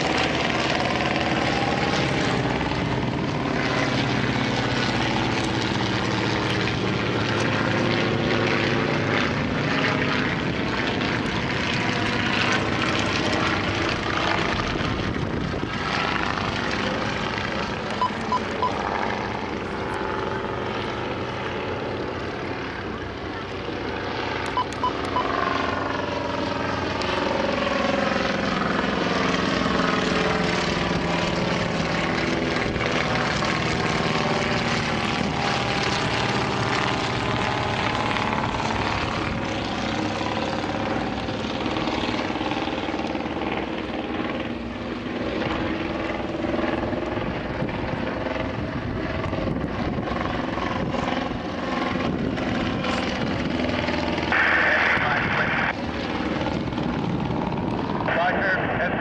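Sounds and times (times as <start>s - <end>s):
propeller planes flying overhead: 0.0s - 59.0s.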